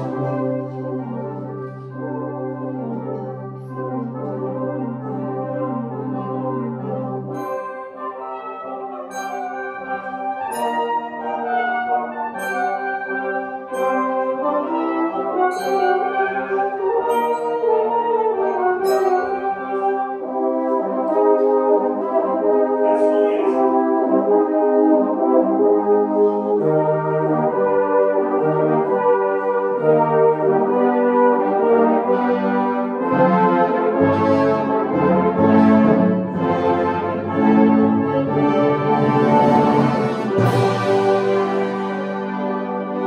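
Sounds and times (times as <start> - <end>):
brass band playing chords: 0.0 - 43.0.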